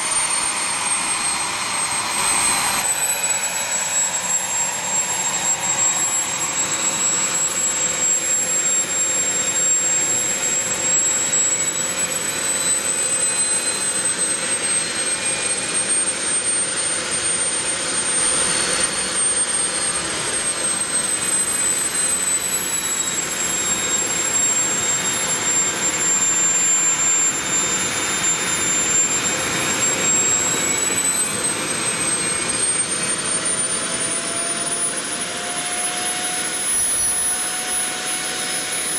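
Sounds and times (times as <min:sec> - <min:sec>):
model jet turbine engine whining: 0:00.0 - 0:38.9.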